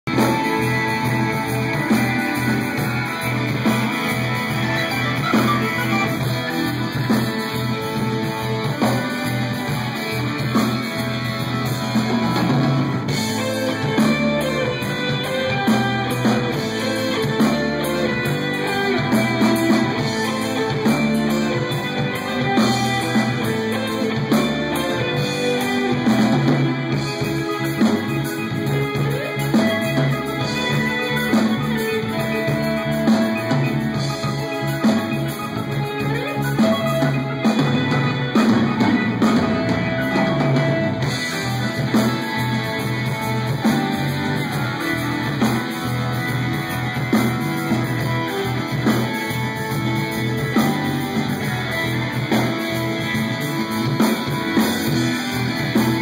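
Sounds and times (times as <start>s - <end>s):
bass guitar: 0.0s - 56.0s
drums: 0.0s - 56.0s
electric guitar: 0.0s - 56.0s
keyboards: 0.0s - 56.0s.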